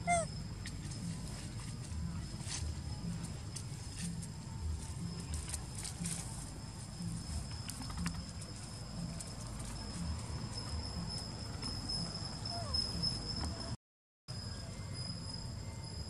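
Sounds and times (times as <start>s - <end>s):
high-pitched insect trill: 0.0s - 16.0s.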